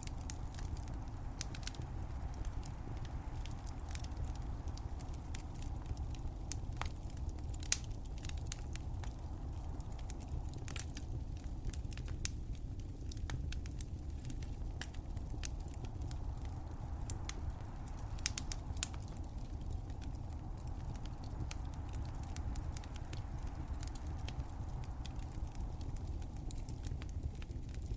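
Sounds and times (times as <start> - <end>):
fire crackling and popping: 0.0 - 27.9.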